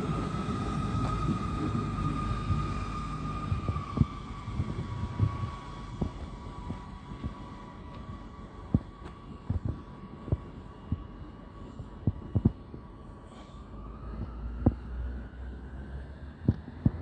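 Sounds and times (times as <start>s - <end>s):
steady hum with high tone: 0.0s - 17.0s.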